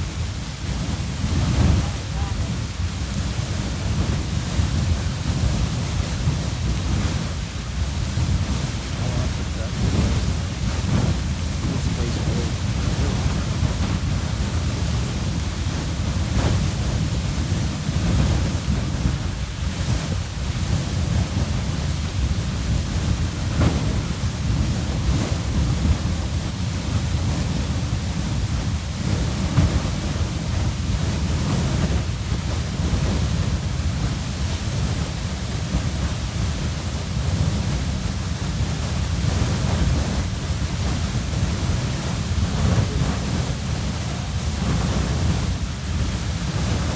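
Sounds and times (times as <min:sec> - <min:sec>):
geyser erupting with rushing water: 0:00.0 - 0:46.9.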